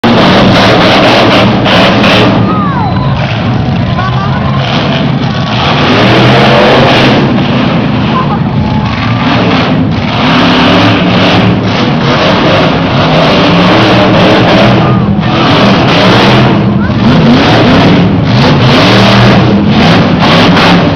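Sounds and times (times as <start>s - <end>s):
truck engine revving roughly: 0.0s - 20.9s.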